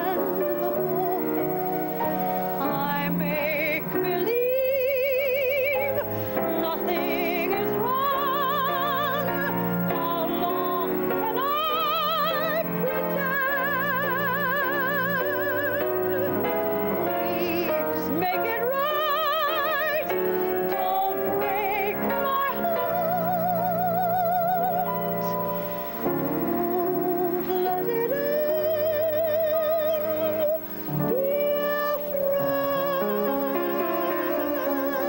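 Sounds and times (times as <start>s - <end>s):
woman singing with vibrato: 0.0s - 35.0s.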